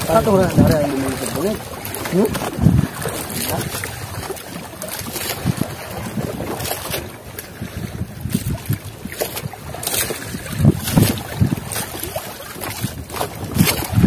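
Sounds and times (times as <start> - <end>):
water slapping against boat hull: 0.0 - 14.0
wind buffeting microphone: 0.0 - 14.0.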